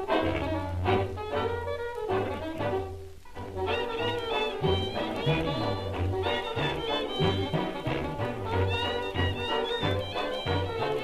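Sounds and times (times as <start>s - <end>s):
sustained melody notes: 0.0s - 11.0s.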